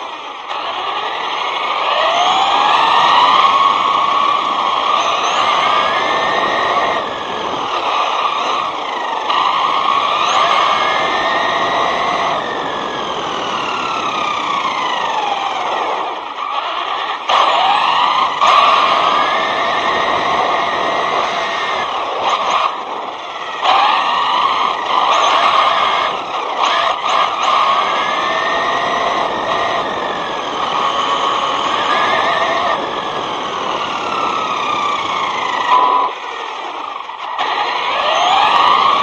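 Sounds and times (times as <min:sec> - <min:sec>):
electric motor whining: 0:00.0 - 0:39.0
steady rushing noise: 0:00.0 - 0:39.0.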